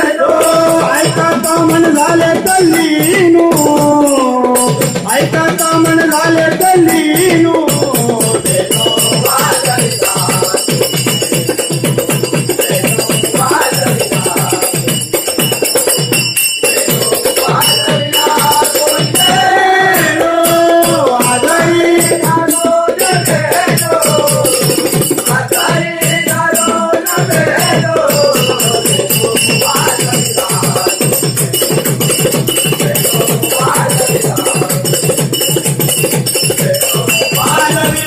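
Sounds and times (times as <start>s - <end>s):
drum strokes: 0.0s - 38.0s
group singing devotional music: 0.0s - 38.0s
jingling percussion: 0.0s - 38.0s.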